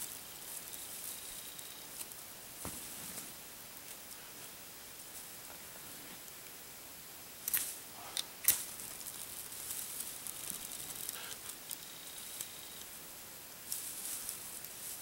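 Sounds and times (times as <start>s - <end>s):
faint crackling of grass: 0.0s - 6.6s, 7.3s - 15.0s.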